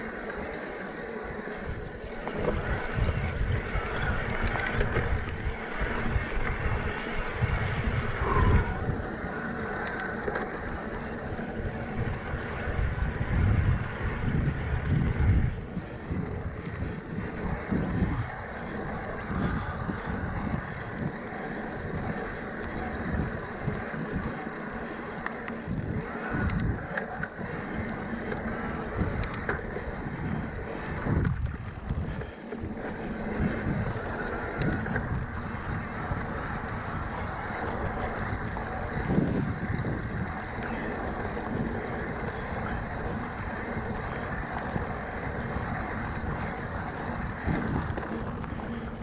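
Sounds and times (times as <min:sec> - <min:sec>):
bike tyres crunching on dirt: 0:00.0 - 0:49.0
wind buffeting microphone: 0:00.0 - 0:49.0.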